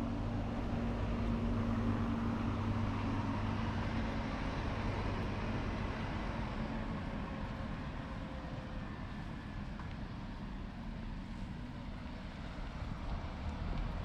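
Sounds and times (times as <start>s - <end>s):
faint engine hum: 0.0s - 14.0s
low rumble of vehicle noise: 0.0s - 14.0s.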